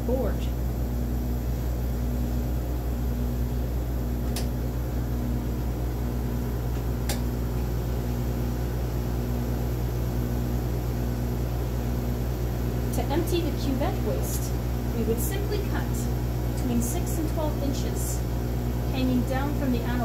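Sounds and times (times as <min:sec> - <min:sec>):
analyzer mechanical hum: 0:00.0 - 0:20.0.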